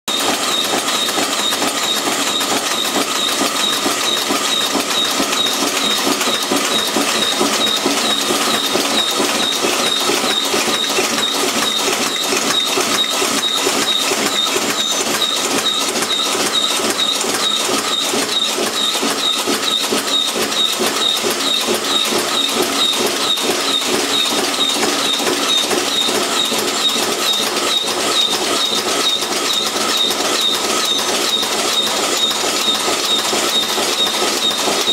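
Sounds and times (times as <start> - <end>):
punching press metallic clatter: 0.1 - 34.9.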